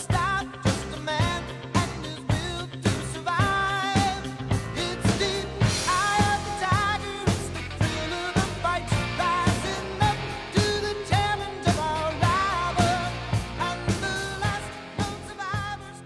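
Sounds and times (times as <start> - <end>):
pop song with singer: 0.0 - 16.0
steady drum beat: 0.0 - 16.0.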